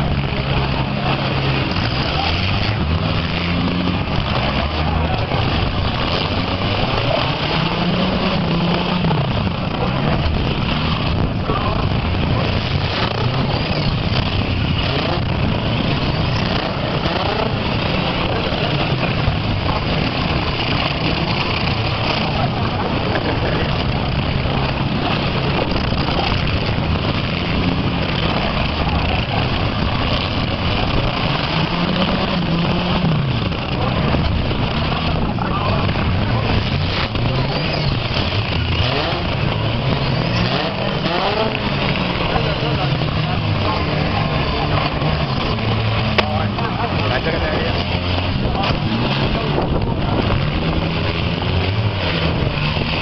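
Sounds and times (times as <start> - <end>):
car engines running loud: 0.0 - 53.0.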